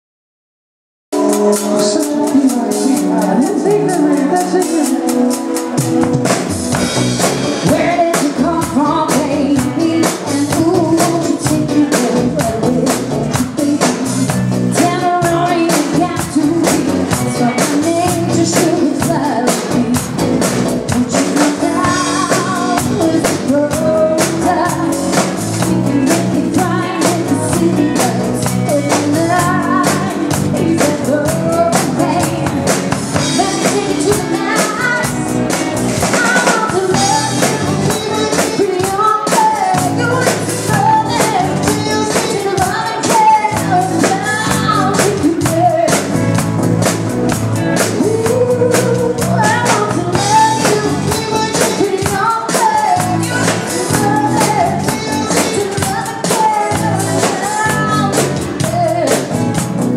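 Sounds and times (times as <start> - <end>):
bass: 1.1 - 59.9
drum kit: 1.1 - 59.9
electric guitars: 1.2 - 59.9
woman singing lead: 1.2 - 59.9.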